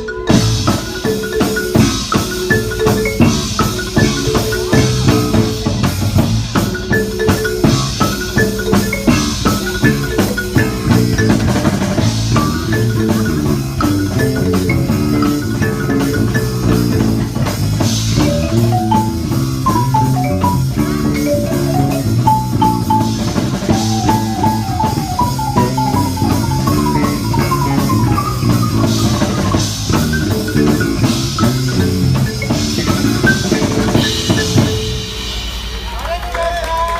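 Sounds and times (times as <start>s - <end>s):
electric bass: 0.0s - 35.6s
marimba playing: 0.0s - 35.9s
steady drum beat: 0.0s - 36.9s.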